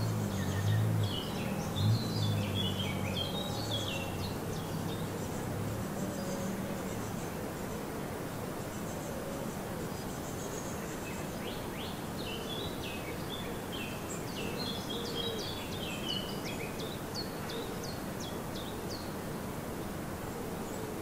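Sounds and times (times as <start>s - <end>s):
low background hiss: 0.0s - 21.0s
songbirds chirping: 0.0s - 21.0s.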